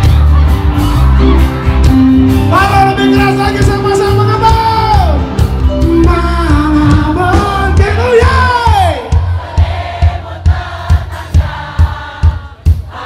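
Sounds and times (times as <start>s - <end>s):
pop-rock band bass and drums: 0.0s - 13.0s.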